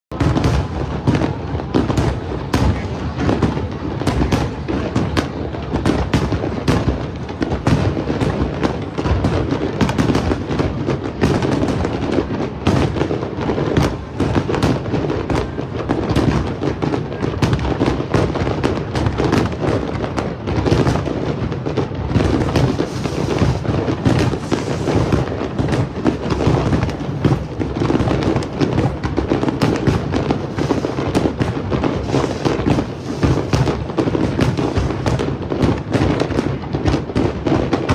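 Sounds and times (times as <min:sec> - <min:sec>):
fireworks bangs and crackles: 0:00.1 - 0:37.9.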